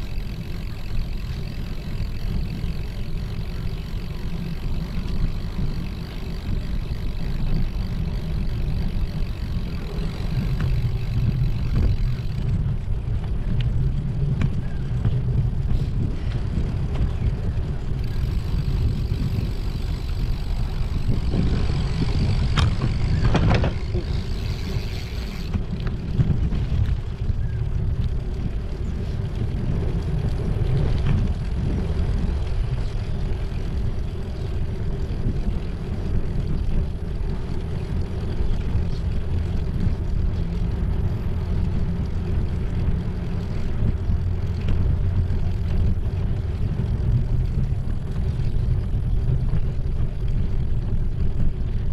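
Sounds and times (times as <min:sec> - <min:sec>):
bicycle tyres rolling on concrete: 0:00.0 - 0:51.9
wind on microphone: 0:00.0 - 0:51.9.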